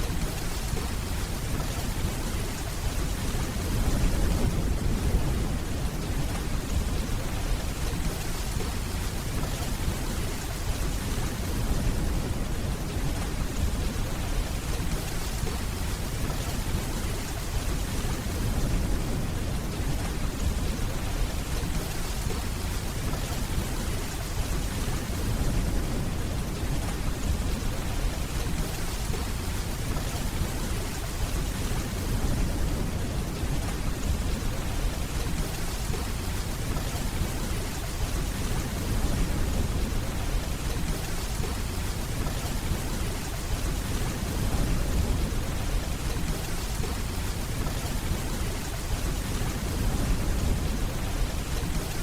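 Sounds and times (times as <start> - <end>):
steady rainfall: 0.0 - 52.0.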